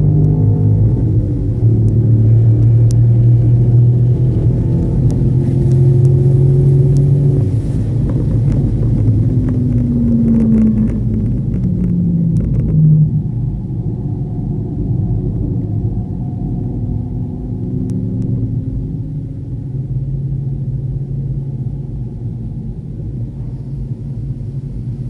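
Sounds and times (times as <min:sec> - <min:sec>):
car engine running: 0:00.0 - 0:25.0
road rumble: 0:00.0 - 0:25.0.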